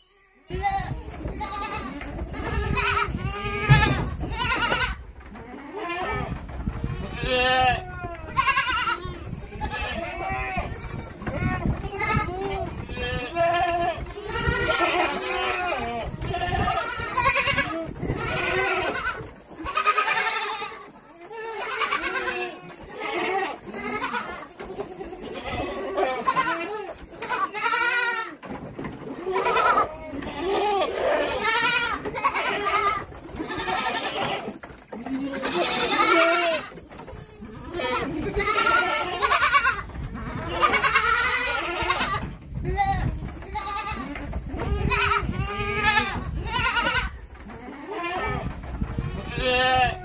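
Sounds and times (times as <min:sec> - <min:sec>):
goats bleating: 0:00.5 - 0:28.4, 0:29.1 - 0:50.0.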